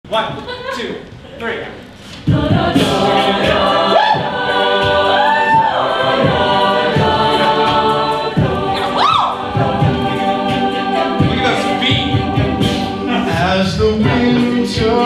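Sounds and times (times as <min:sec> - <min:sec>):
a cappella group singing: 0:01.9 - 0:15.0.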